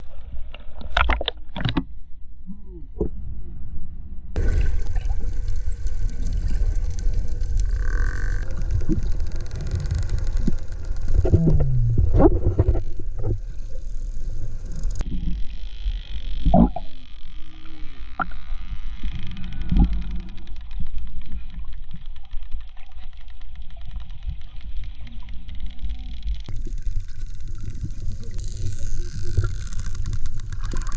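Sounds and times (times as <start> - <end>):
low underwater rumble: 0.0 - 30.9.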